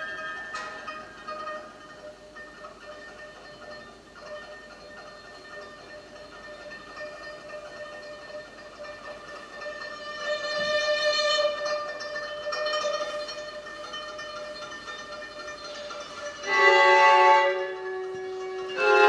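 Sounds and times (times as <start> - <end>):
bowed strings led by violin: 0.0 - 19.0.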